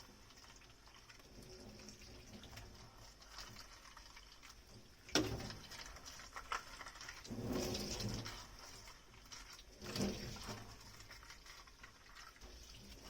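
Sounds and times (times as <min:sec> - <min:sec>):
water running in sink: 0:00.0 - 0:13.0.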